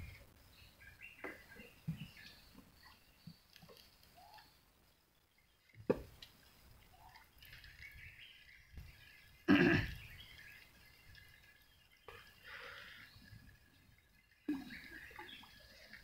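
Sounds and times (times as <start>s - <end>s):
water drips: 0.0s - 16.0s.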